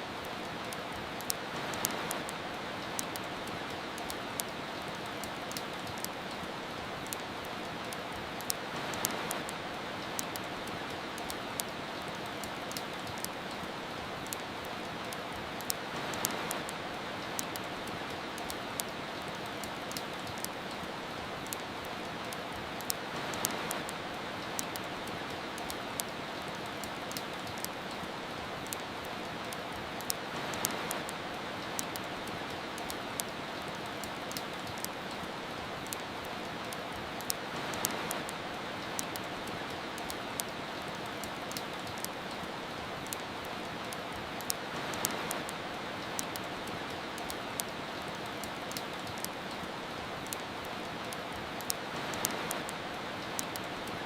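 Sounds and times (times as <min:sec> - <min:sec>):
steady rain: 0:00.0 - 0:54.0
wood fire crackling: 0:00.1 - 0:54.0.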